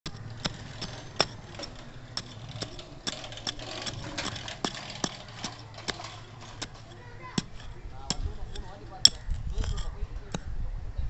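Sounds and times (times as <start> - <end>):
digging tool striking gravelly soil: 0.1 - 9.9
steady low hum: 0.1 - 10.0.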